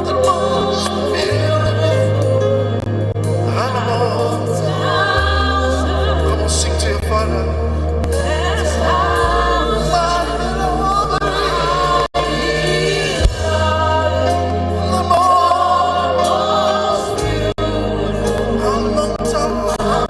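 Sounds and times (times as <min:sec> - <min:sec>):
bass and keyboard accompaniment: 0:00.0 - 0:20.0
choir singing gospel: 0:00.0 - 0:20.0.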